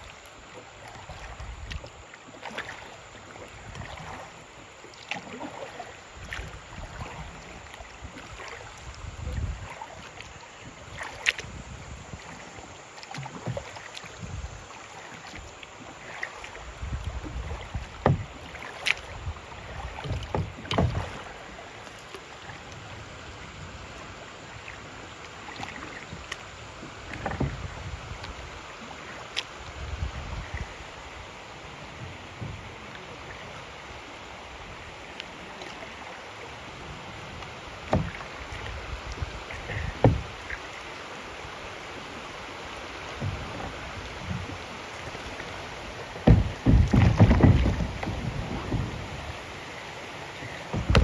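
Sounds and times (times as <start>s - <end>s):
kayak knocks and thumps: 0.0s - 51.0s
paddle splashes: 0.0s - 51.0s
rushing river water: 0.0s - 51.0s.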